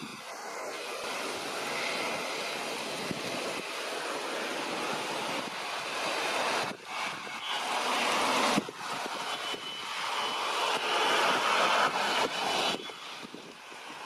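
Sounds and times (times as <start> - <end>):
high turbine whine: 0.0 - 14.0
jet engines roaring: 0.0 - 14.0
wind on microphone: 0.0 - 14.0.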